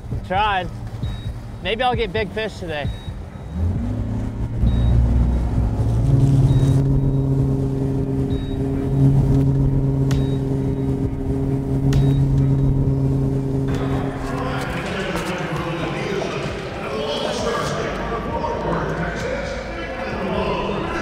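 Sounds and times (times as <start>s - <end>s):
outboard motor droning: 0.0s - 21.0s.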